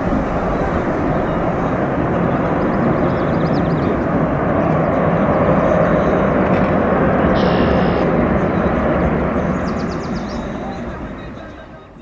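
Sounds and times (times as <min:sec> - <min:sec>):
jet airliner engines roaring: 0:00.0 - 0:12.0.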